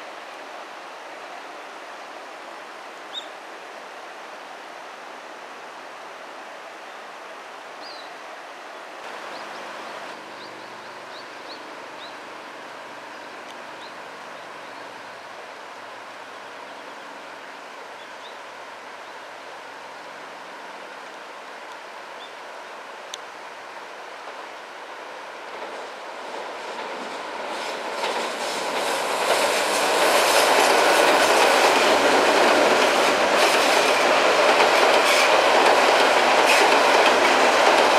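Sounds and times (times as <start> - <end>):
rushing outdoor ambience: 0.0 - 37.9.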